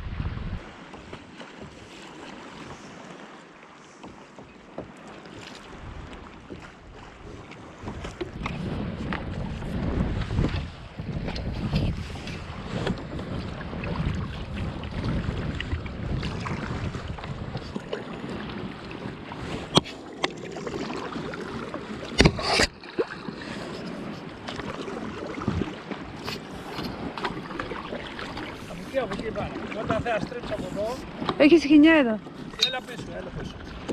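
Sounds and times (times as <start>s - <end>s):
wind buffeting microphone: 0.0s - 1.8s, 5.6s - 33.9s
water lapping against kayak hull: 0.0s - 33.9s
paddle knocking against boat: 0.6s - 3.2s, 3.9s - 33.9s.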